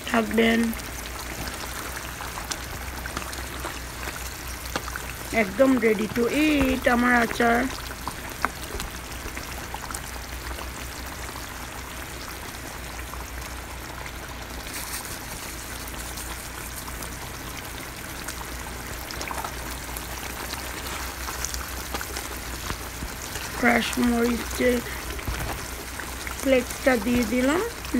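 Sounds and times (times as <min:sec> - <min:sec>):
pickle sizzling in hot oil: 0:00.0 - 0:27.9.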